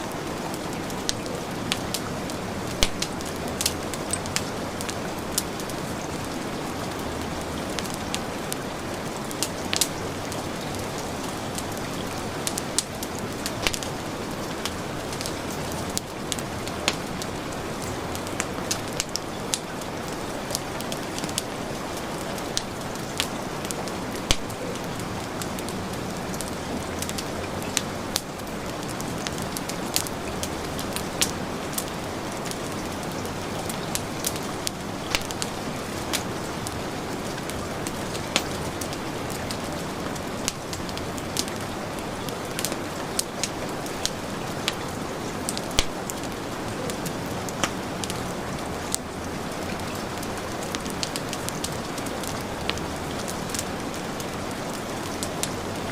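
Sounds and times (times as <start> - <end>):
heavy rain hissing: 0.0 - 55.9
wood fire crackling: 0.0 - 55.9.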